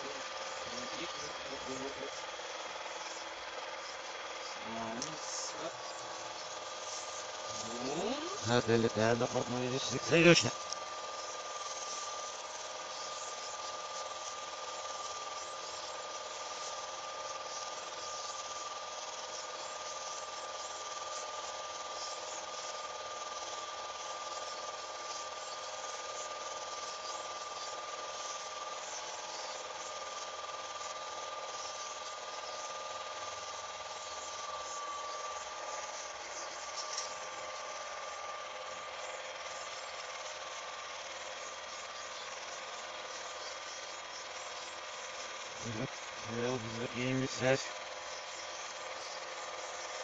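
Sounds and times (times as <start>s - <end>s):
film projector whirring: 0.0s - 50.0s
high whine: 0.0s - 50.0s.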